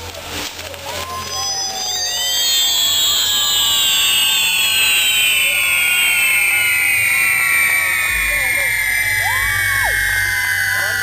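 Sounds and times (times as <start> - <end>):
firework whistles: 0.3 - 11.0.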